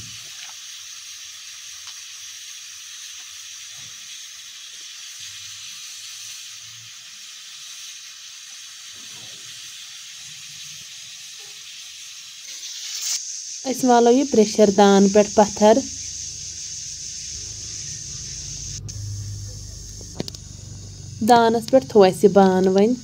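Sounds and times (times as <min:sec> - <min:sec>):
steam hissing from pressure cooker: 0:00.0 - 0:23.0.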